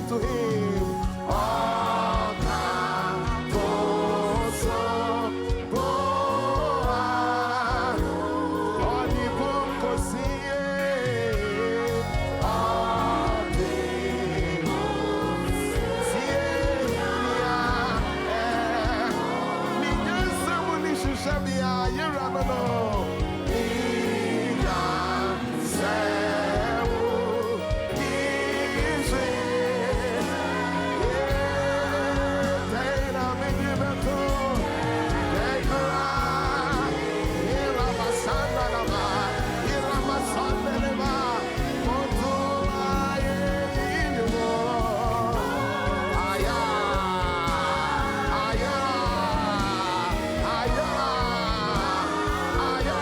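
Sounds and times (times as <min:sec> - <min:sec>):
person singing with vibrato: 0:00.0 - 0:53.0
steady beat: 0:00.0 - 0:53.0
sustained keyboard chords: 0:00.0 - 0:53.0.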